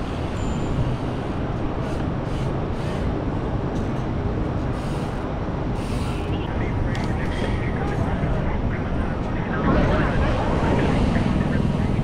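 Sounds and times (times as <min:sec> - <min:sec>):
city street sound: 0:00.0 - 0:12.0.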